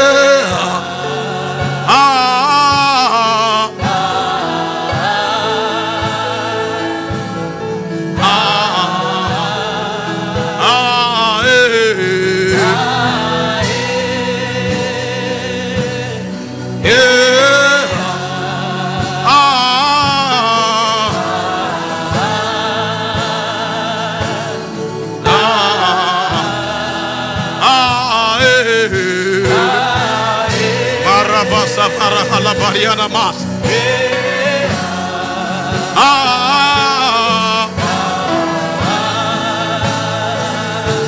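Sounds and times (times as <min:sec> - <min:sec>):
gospel singing with band: 0:00.0 - 0:41.0.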